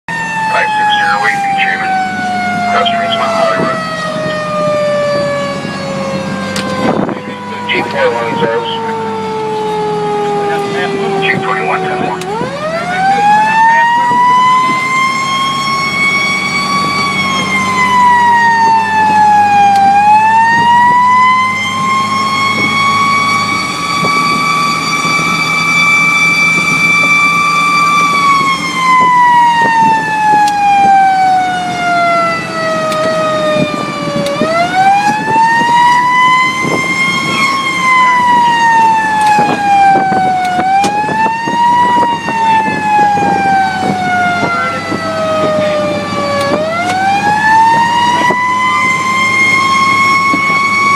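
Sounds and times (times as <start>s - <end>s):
fire engine siren wailing: 0.0s - 50.9s.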